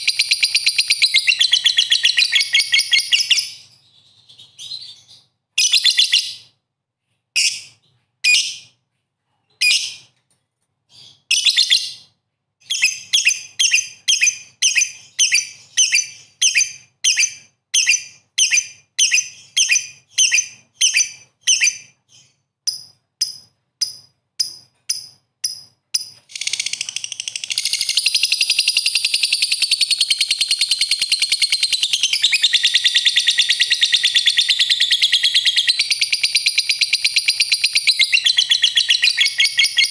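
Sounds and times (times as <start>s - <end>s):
songbird chirping and trilling: 0.0s - 6.6s, 10.9s - 25.0s, 26.0s - 39.9s.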